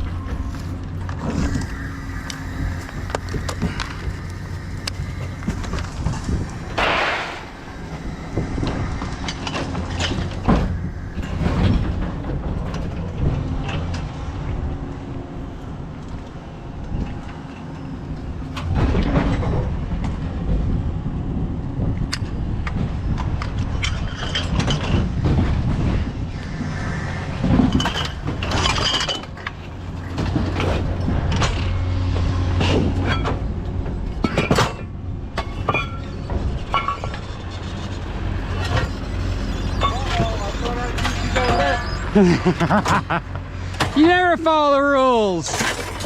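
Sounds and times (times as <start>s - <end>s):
vehicle engine humming: 0.0s - 21.9s, 24.8s - 46.0s.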